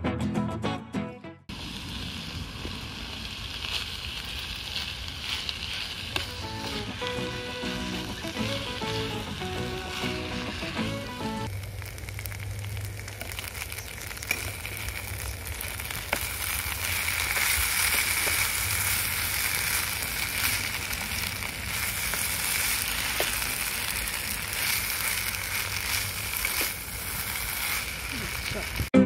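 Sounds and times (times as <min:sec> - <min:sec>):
food sizzling in a pan: 0:01.5 - 0:28.9
small pops of frying: 0:01.5 - 0:28.9.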